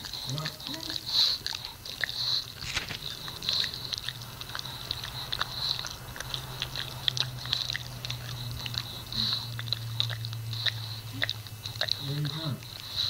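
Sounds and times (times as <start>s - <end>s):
dog chewing wet smacking: 0.0s - 13.0s
steady low hum: 0.0s - 13.0s.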